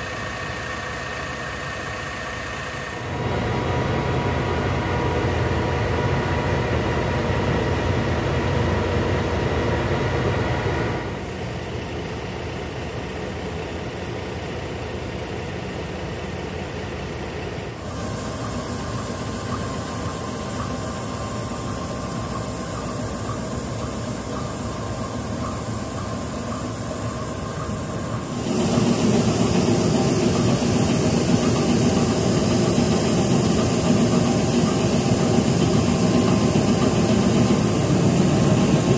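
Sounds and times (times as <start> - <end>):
locomotive engine idling: 0.0 - 38.9.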